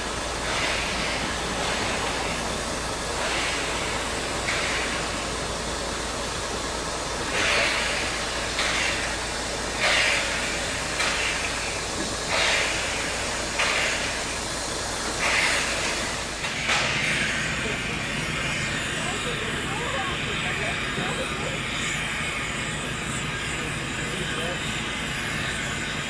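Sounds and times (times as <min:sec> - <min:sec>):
steady hiss of escaping steam: 0:00.0 - 0:26.0
steam locomotive exhaust chuffs: 0:00.0 - 0:26.0.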